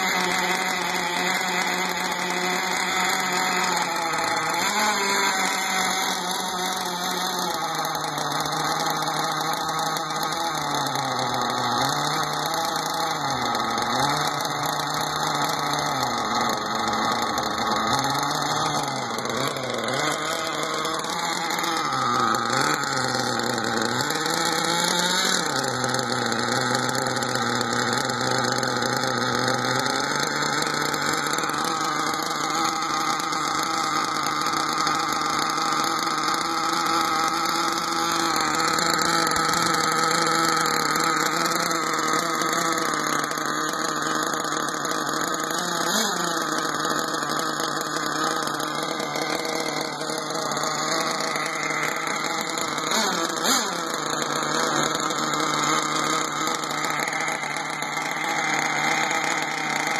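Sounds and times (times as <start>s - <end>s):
model car engine running: 0.0s - 59.9s.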